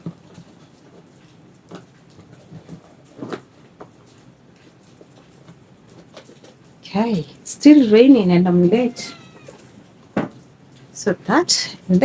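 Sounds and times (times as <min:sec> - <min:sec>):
faint rain falling: 0:00.0 - 0:12.0.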